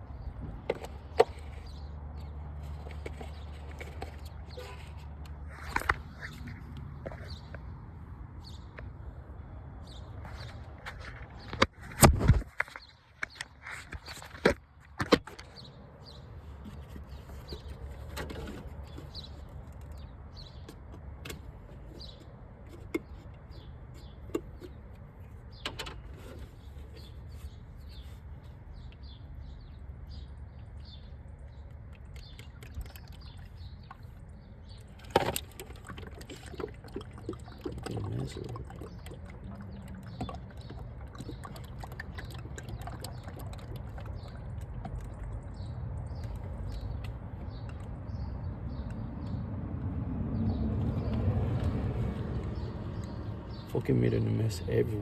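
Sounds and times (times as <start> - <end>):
small birds chirping: 0.0 - 11.7, 12.3 - 49.6, 50.4 - 55.0.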